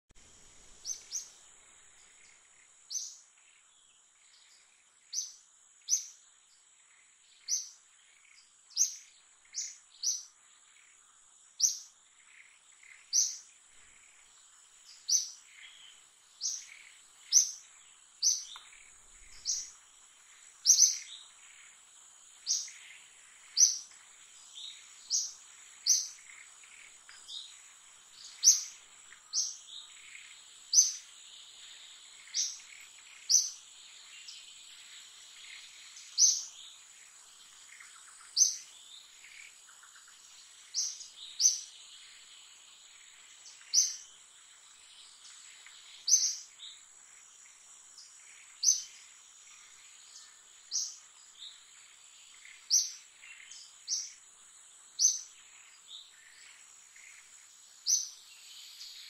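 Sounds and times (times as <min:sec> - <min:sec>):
bird chirping: 0:00.2 - 0:59.0
faint high-pitched whine: 0:00.2 - 0:59.0.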